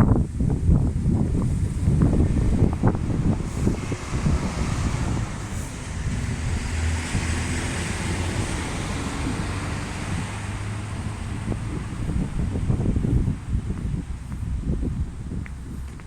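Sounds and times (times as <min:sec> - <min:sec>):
low engine hum: 0:00.0 - 0:16.0
vehicle tyre noise passing: 0:00.0 - 0:16.0
wind on microphone: 0:00.0 - 0:16.0.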